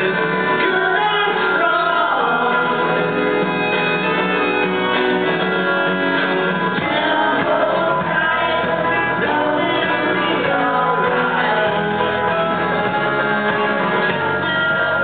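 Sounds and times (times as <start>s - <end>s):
live band playing with singing: 0.0s - 15.0s.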